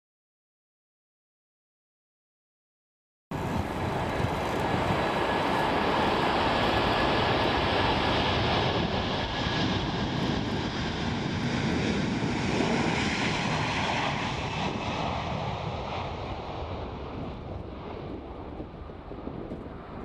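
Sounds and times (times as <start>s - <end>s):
jet engines with fan whine: 3.3s - 20.0s.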